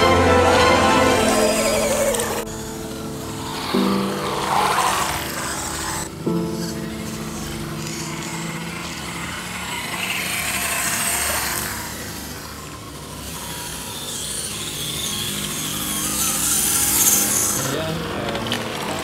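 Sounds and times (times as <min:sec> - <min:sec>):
electric motors and gears whining: 0:00.0 - 0:19.0.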